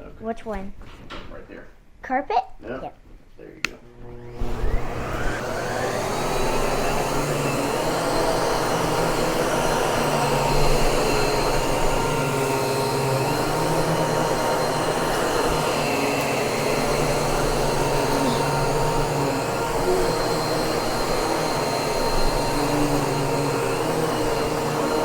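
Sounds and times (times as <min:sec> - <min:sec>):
vacuum cleaner motor whine: 0:03.7 - 0:25.0.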